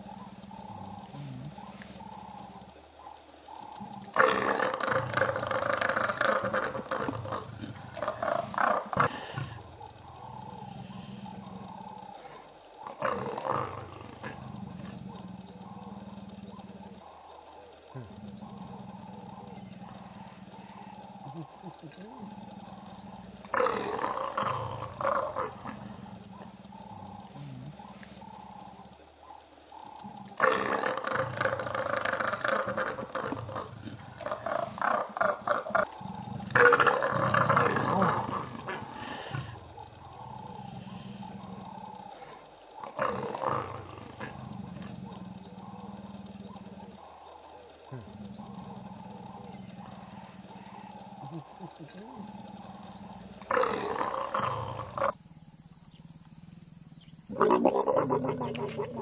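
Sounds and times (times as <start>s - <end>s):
leopards growling: 0.0s - 59.0s.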